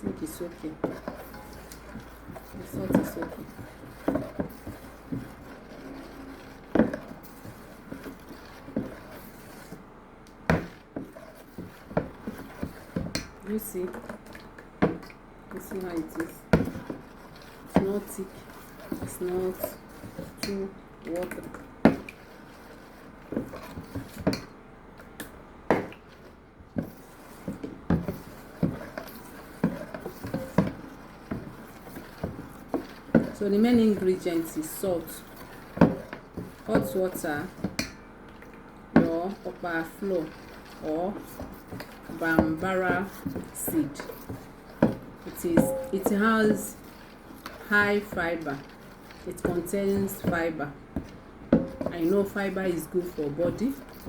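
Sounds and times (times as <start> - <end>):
spoon knocking and scraping bowl: 0.0 - 9.8, 10.4 - 24.6, 25.2 - 38.2, 38.9 - 54.0.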